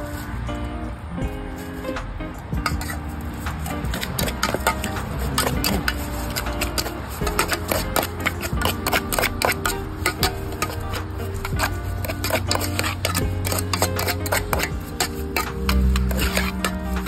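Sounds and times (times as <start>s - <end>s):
metal spoon scraping a pot: 2.6s - 17.0s.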